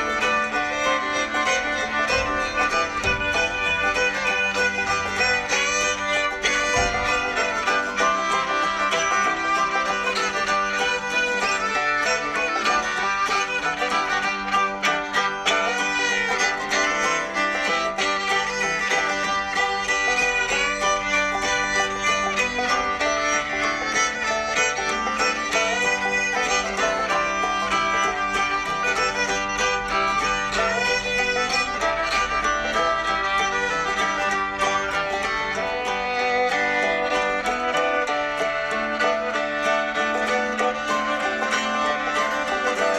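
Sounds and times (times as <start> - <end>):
upbeat fiddle and banjo tune: 0.0 - 42.9.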